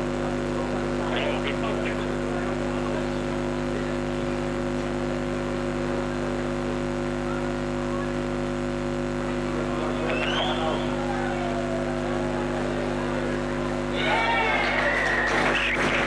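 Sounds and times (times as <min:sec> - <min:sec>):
steady hum of fixed tones: 0:00.0 - 0:16.0.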